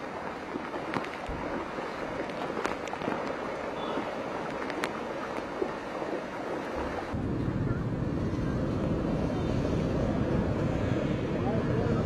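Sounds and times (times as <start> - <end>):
fast-flowing floodwater: 0.0 - 12.0
wind buffeting microphone: 0.0 - 12.0.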